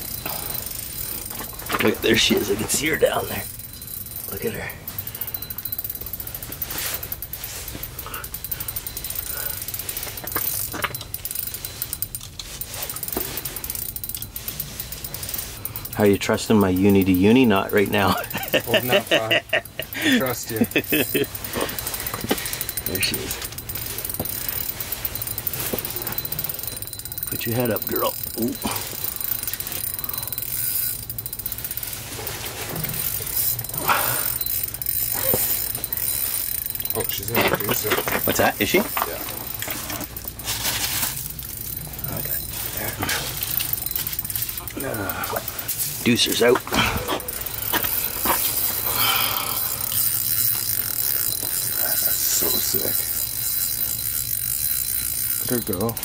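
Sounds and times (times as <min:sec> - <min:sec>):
fishing reel clicking: 0:00.0 - 0:56.0.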